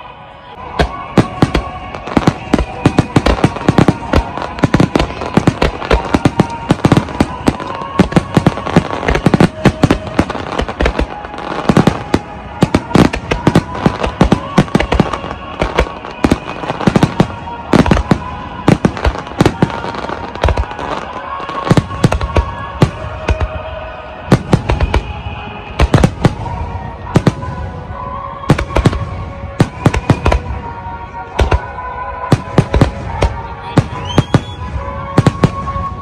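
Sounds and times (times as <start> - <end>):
music with held tones: 0.0 - 36.0
fireworks bursting: 0.6 - 36.0.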